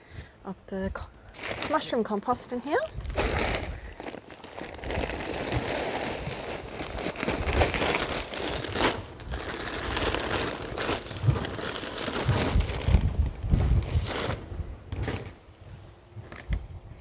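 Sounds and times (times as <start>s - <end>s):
plastic bag crinkling: 1.3s - 15.4s.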